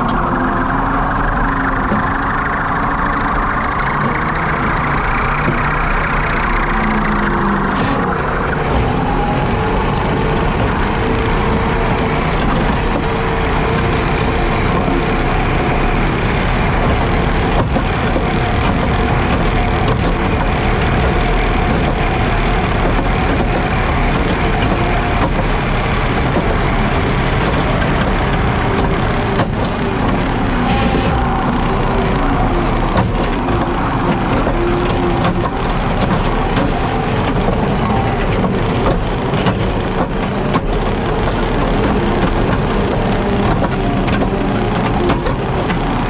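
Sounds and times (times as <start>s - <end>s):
faint steady whine: 0.0s - 38.4s
diesel engine under load: 0.0s - 46.0s.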